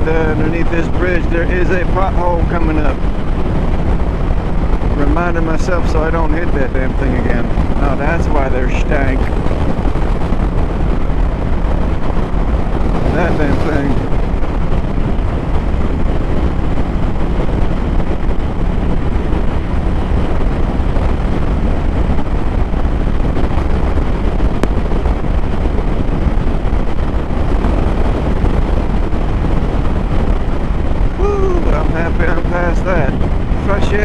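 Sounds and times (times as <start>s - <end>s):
motorcycle engine drone: 0.0s - 34.0s
wind rush on microphone: 0.0s - 34.0s.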